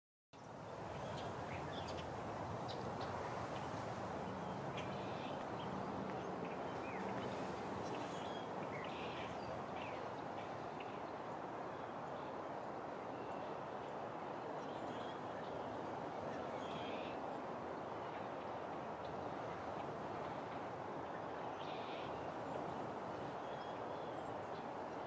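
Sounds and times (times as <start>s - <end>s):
outdoor background noise: 0.4s - 25.0s.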